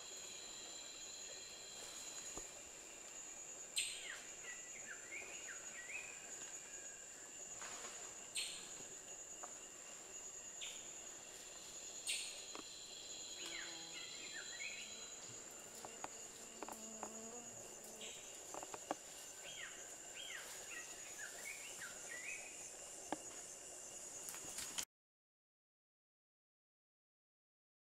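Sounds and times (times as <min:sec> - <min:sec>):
high-pitched insect drone: 0:00.0 - 0:24.8.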